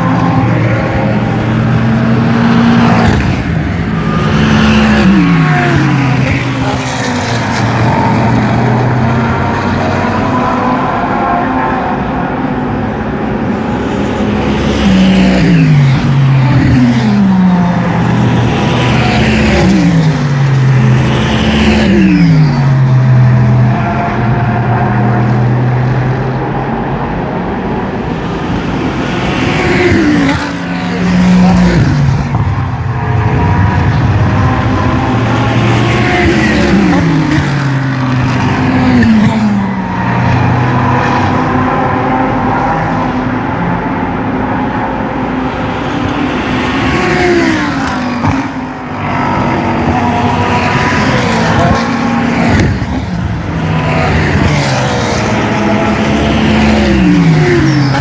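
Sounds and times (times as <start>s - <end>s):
race car engines downshifting: 0.0s - 58.0s.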